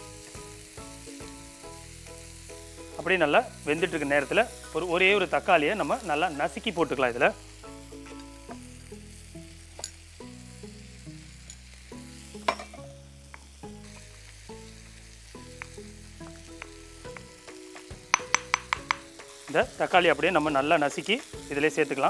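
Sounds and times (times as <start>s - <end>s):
chicken sizzling in a pan: 0.0s - 22.0s
soft background music: 0.0s - 22.0s.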